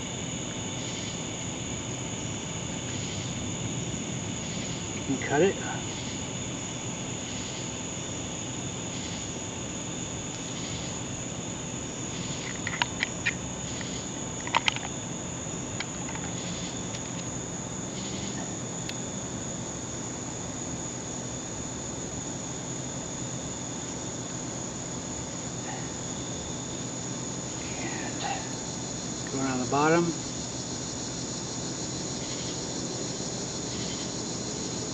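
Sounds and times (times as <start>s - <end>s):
night insects chorus: 0.0s - 34.9s.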